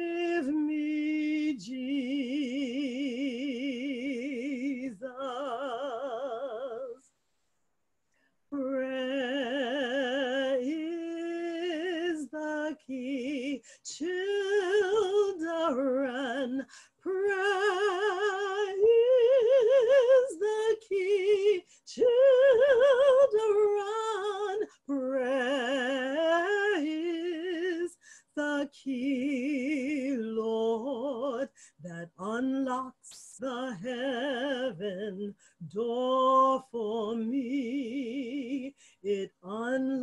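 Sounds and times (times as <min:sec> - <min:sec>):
woman singing unaccompanied: 0:00.0 - 0:07.1, 0:08.5 - 0:40.0.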